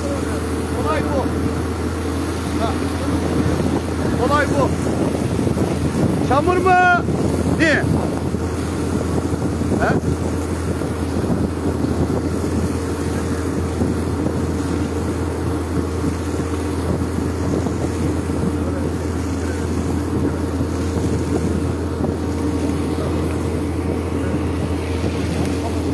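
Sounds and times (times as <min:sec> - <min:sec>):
low machine drone: 0:00.0 - 0:25.9
muddy water and gravel gushing: 0:02.5 - 0:25.9.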